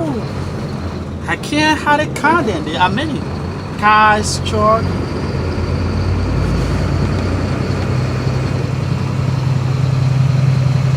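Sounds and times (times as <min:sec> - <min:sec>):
vehicle engines idling: 0:00.0 - 0:10.9.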